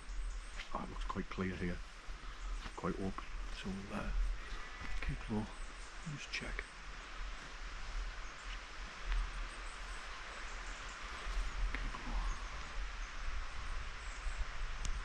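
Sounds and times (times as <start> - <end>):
wind rumble on microphone: 0.0 - 15.0
wind rustling trees and grass: 0.0 - 15.0.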